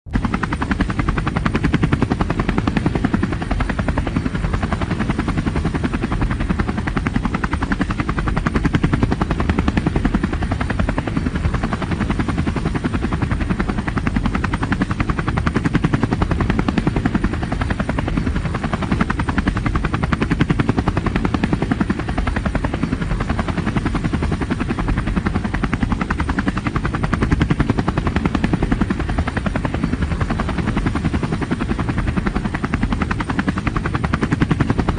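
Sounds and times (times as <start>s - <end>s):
helicopter rotor blade chop: 0.1s - 34.9s.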